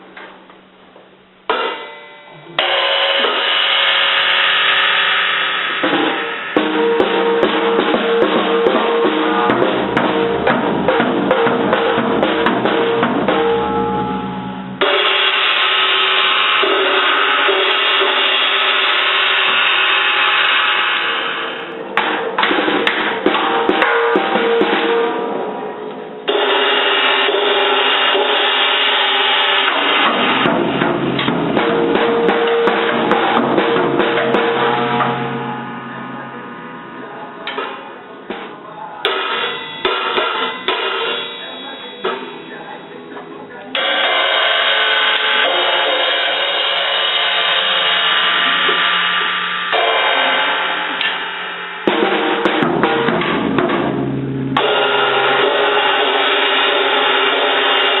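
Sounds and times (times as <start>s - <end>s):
cymbals ringing: 0.0s - 58.0s
drum kit banging: 0.0s - 58.0s.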